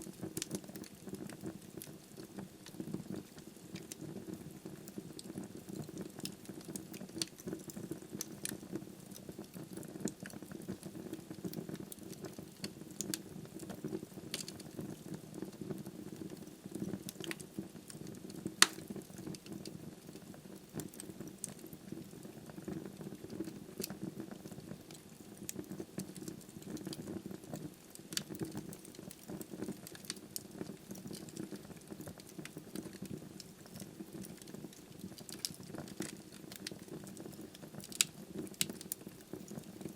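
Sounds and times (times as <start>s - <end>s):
fire burning: 0.1s - 24.6s, 25.4s - 39.8s
logs crackling and popping: 0.1s - 39.9s.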